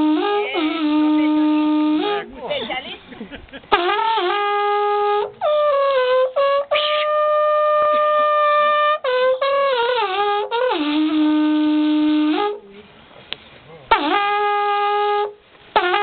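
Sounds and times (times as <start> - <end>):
shepherd's horn held notes: 0.0 - 2.6, 3.7 - 12.9, 13.9 - 16.0.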